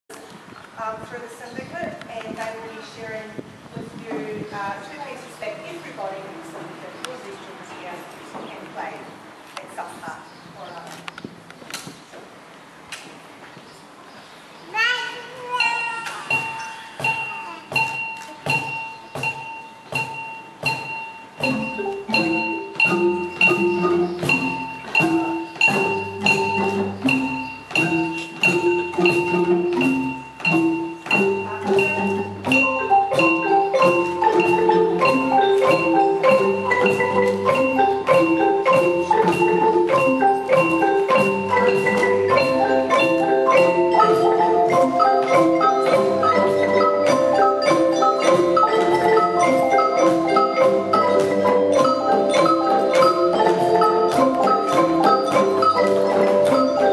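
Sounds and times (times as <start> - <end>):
marimba ensemble playing: 4.1 - 9.2, 15.2 - 56.9.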